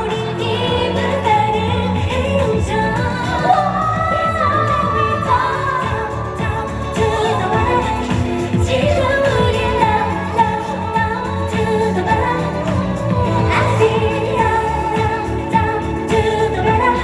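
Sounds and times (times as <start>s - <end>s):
amplified backing band track: 0.0s - 17.0s
woman singing: 0.0s - 17.0s.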